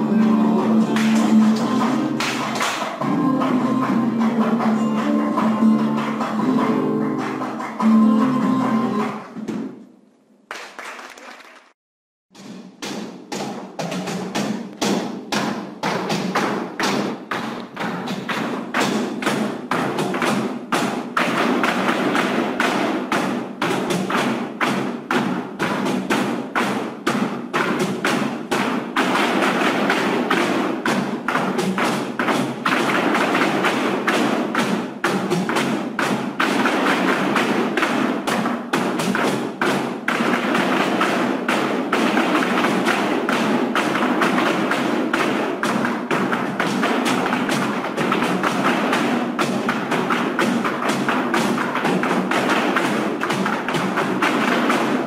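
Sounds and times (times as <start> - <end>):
flamenco music: 0.0 - 9.9, 12.4 - 55.0.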